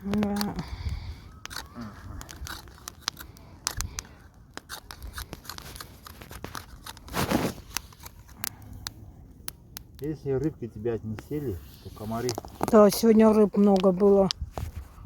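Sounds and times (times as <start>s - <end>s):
campfire crackling and popping: 0.0s - 14.6s.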